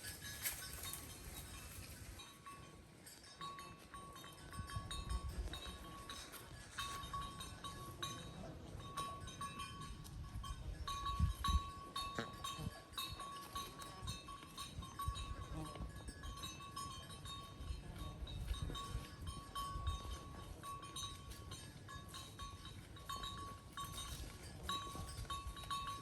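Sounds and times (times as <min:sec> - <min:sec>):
cowbells clanking: 0:00.0 - 0:26.0.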